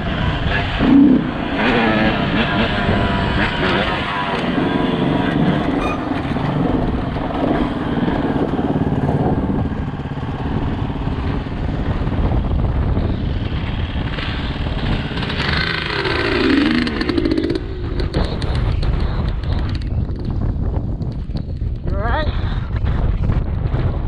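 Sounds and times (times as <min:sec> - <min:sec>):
dirt bike engine: 0:00.0 - 0:21.8
wind: 0:00.0 - 0:24.0.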